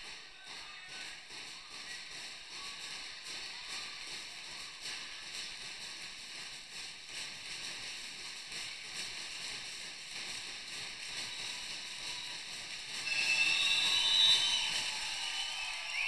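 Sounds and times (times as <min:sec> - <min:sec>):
crowd noise in sports hall: 0:00.0 - 0:16.0.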